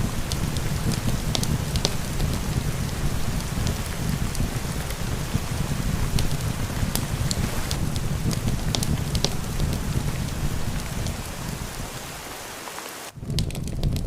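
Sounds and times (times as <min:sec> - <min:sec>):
wood fire crackling and popping: 0:00.0 - 0:12.3, 0:13.1 - 0:14.0
steady rain: 0:00.0 - 0:14.0.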